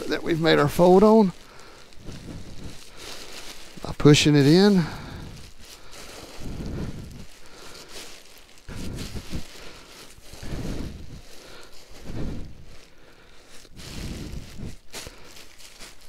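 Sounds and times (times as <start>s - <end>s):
nylon fabric rustling: 0.0s - 16.0s.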